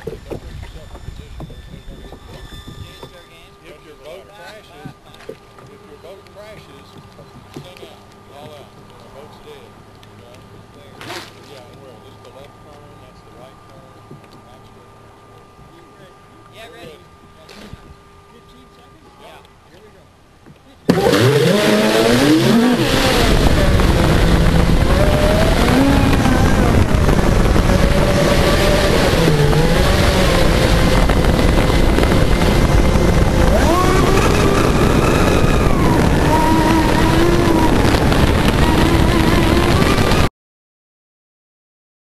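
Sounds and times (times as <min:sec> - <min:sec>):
electric boat motor whining: 0:00.0 - 0:20.0, 0:20.8 - 0:40.3.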